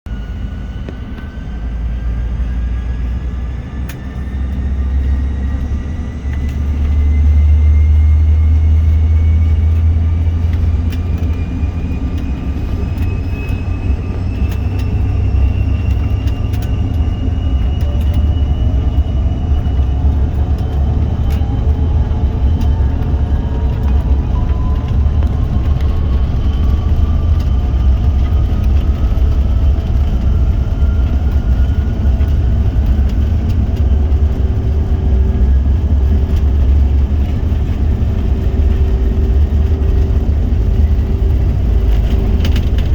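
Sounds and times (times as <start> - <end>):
airplane engines spooling up: 0.1 - 42.9
rising engine whine: 0.1 - 42.9.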